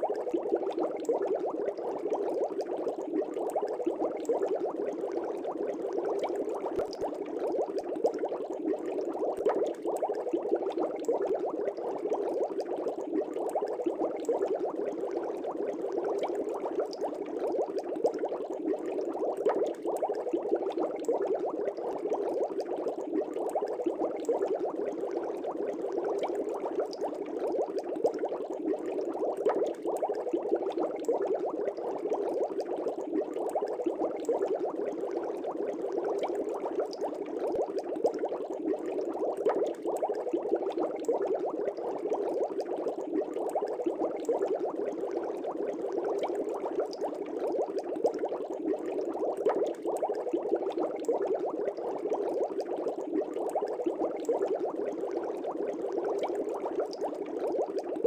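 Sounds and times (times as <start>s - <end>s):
air bubbles in fish tank water: 0.0s - 58.0s.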